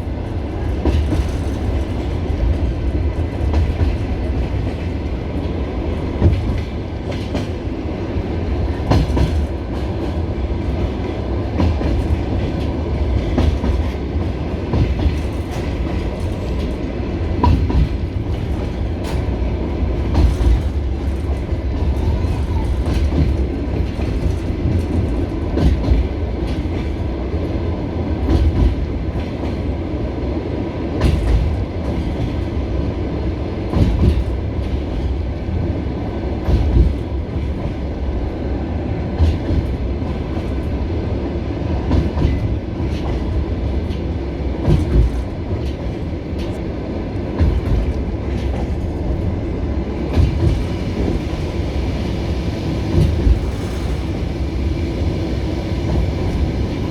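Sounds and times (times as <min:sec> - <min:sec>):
train wheels clacking: 0:00.0 - 0:27.6, 0:28.2 - 0:29.8, 0:30.9 - 0:32.9, 0:33.5 - 0:38.0, 0:39.1 - 0:56.9
train low rumble: 0:00.0 - 0:56.9.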